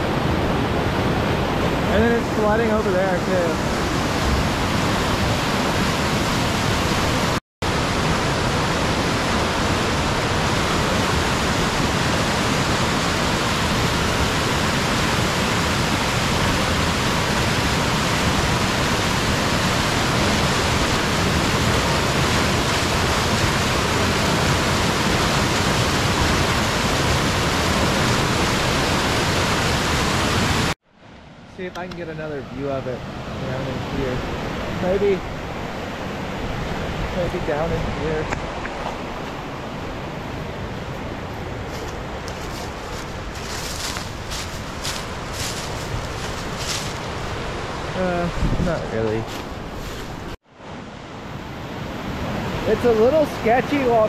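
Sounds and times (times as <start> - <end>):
waterfall roaring: 0.0 - 30.8, 31.6 - 50.4, 51.4 - 54.0.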